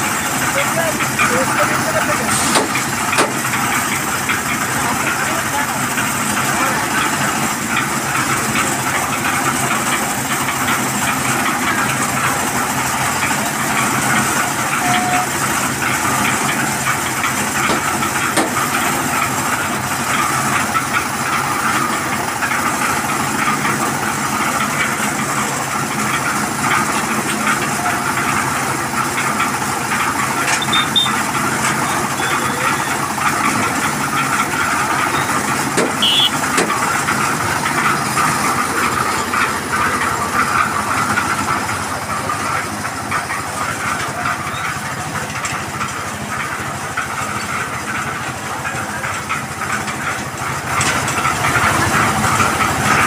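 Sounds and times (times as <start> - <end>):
diesel engine driving concrete mixer: 0.0 - 53.0.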